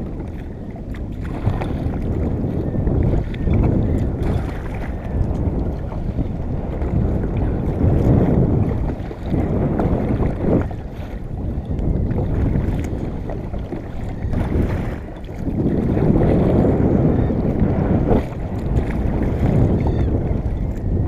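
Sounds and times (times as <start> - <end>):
water washing around hull: 0.0 - 21.0
wind buffeting microphone: 0.0 - 21.0.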